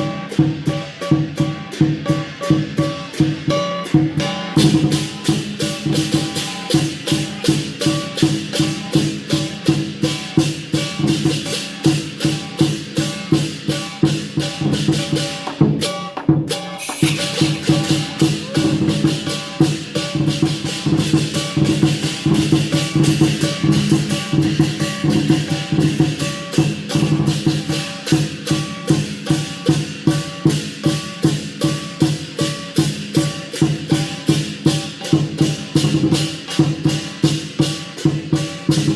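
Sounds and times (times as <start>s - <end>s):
music with fast percussive beat: 0.0s - 38.9s.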